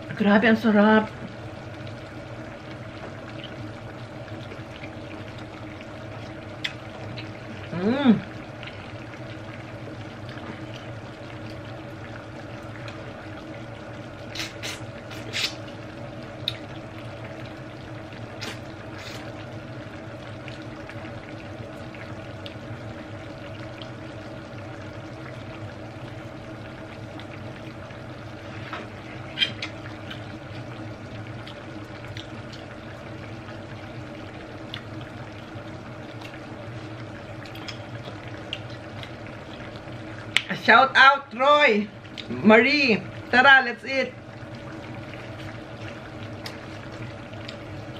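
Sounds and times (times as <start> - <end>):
steady hum: 0.0 - 47.9
stew simmering in a pan: 0.0 - 47.9.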